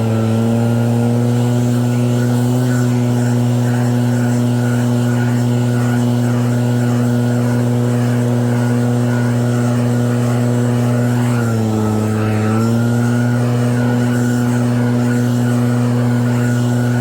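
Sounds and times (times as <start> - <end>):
snow blower motor humming: 0.0 - 17.0.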